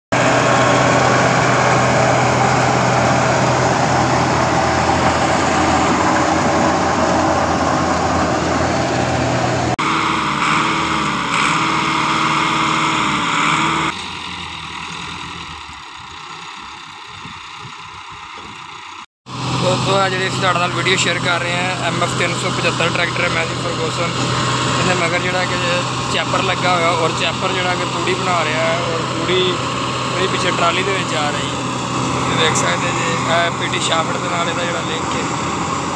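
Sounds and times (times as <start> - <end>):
straw chopper running: 0.1 - 35.9
tractor engine running: 0.1 - 35.9
blower throwing chaff: 0.2 - 14.3, 19.3 - 35.9.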